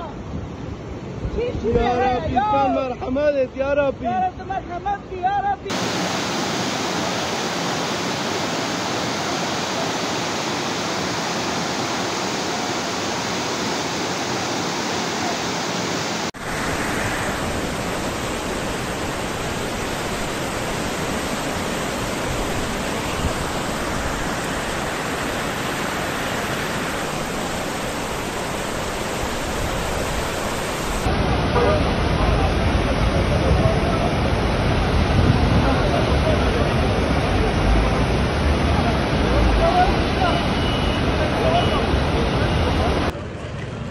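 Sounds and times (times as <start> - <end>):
floodwater rushing: 5.7 - 43.4.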